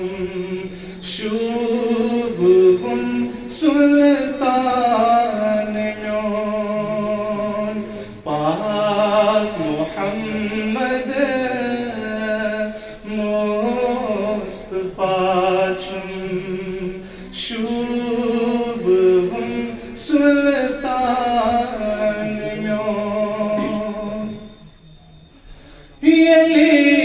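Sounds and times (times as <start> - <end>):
man singing unaccompanied: 0.0 - 24.6, 26.0 - 27.0.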